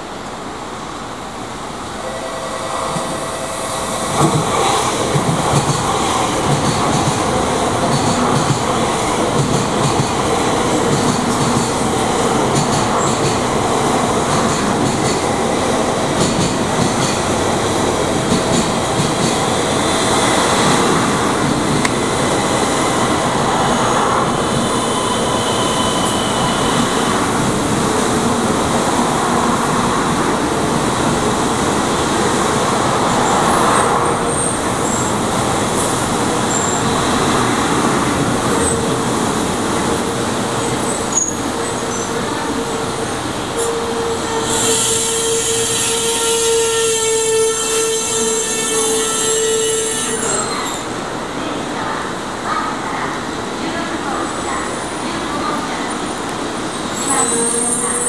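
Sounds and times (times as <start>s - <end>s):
train rolling past: 0.0s - 58.0s.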